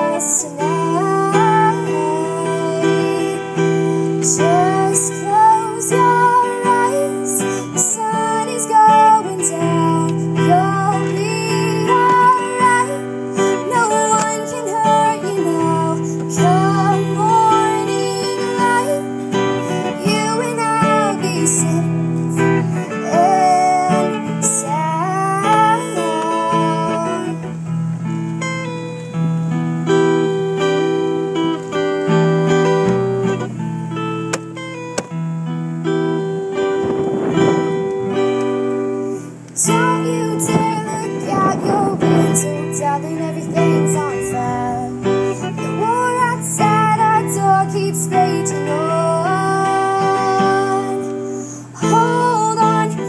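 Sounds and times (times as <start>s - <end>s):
person singing: 0.0s - 27.6s, 36.1s - 53.0s
strummed acoustic guitar: 0.0s - 53.0s.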